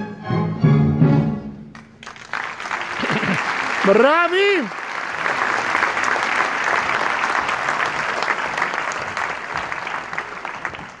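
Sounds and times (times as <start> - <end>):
audience applauding: 1.7 - 11.0.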